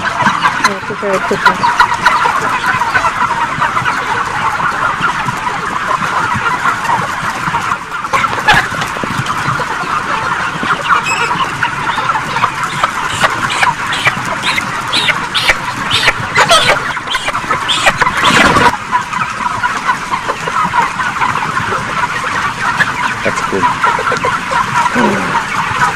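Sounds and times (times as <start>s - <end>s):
chickens peeping and clucking: 0.0s - 25.9s.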